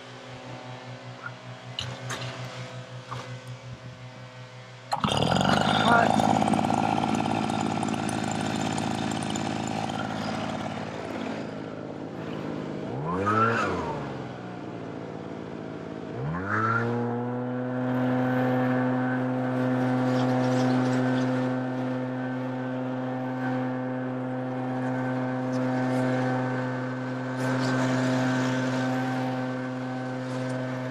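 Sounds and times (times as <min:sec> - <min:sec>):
engine revving: 0:00.0 - 0:30.9.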